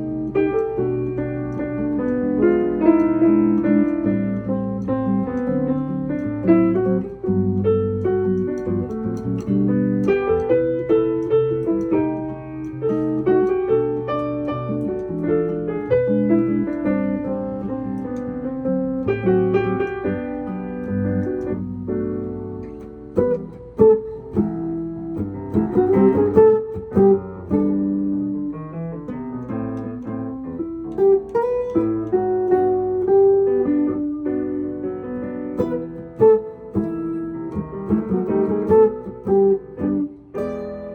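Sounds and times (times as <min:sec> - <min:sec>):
piano piece: 0:00.0 - 0:40.9.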